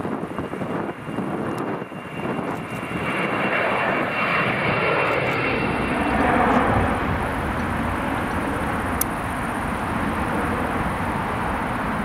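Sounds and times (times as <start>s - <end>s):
jet airliner roar: 0.0s - 12.0s.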